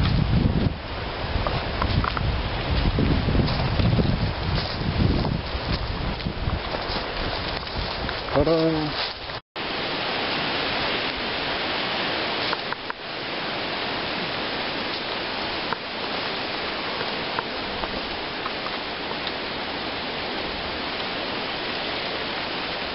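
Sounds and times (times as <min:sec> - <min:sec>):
steady hiss-like rushing noise: 0:00.0 - 0:22.9.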